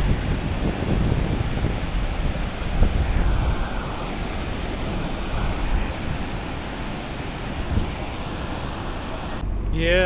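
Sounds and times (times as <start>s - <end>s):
distant waterfall roar: 0.0s - 10.0s
wind buffeting microphone: 0.0s - 10.0s.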